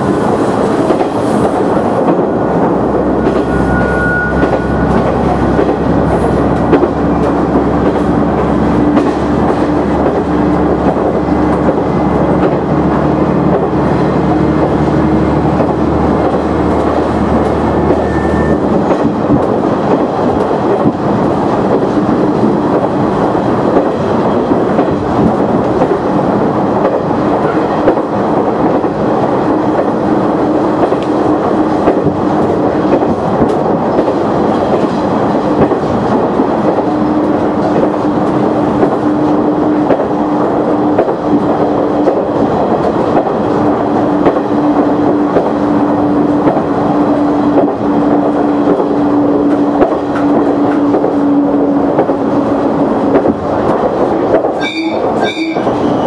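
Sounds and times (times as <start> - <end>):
train running noise: 0.0 - 56.0.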